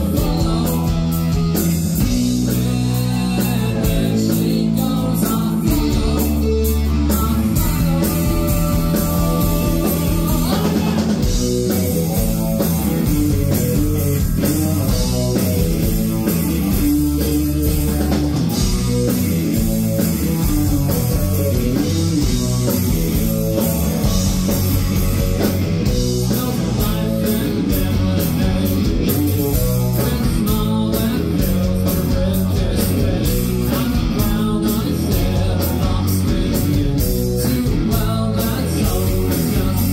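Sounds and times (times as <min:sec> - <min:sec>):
bass guitar: 0:00.0 - 0:39.9
drum kit: 0:00.0 - 0:39.9
electric guitar: 0:00.0 - 0:39.9
man singing lead: 0:00.0 - 0:39.9.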